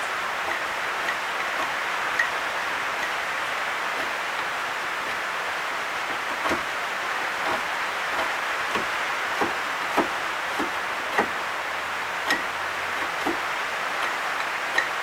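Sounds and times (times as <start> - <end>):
knife whittling wood clicks: 0.0 - 5.4, 6.0 - 6.8, 7.4 - 11.5, 12.1 - 15.0
steady hiss: 0.0 - 15.0.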